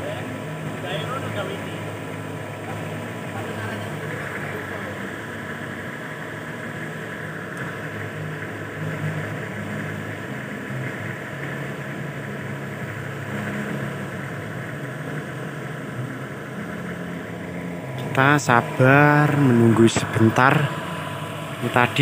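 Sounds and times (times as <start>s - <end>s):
forklift engine running: 0.0s - 22.0s.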